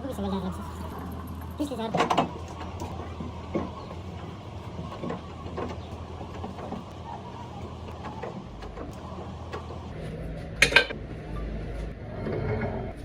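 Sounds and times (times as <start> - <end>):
machine humming with light ticking: 0.0 - 13.0.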